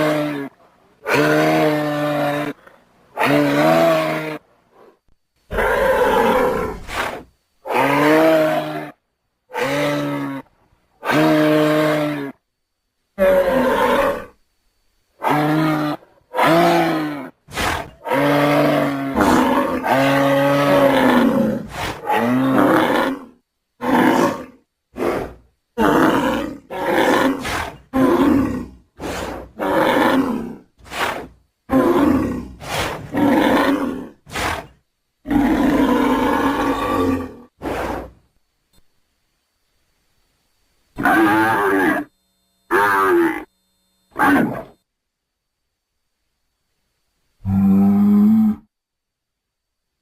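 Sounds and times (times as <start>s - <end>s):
animal calls and roars: 0.0s - 12.4s, 13.2s - 14.4s, 15.2s - 38.2s, 41.0s - 42.1s, 42.7s - 43.5s, 44.1s - 44.8s, 47.4s - 48.7s.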